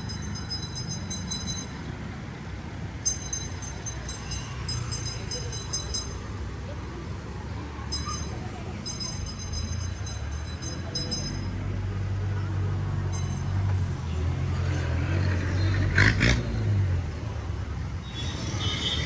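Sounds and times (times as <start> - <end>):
vehicle engines rumbling: 0.0 - 19.0.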